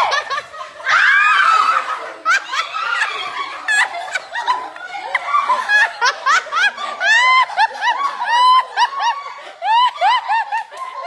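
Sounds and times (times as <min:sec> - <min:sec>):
excited voices: 0:00.0 - 0:11.0
women and children laughing: 0:00.0 - 0:11.0.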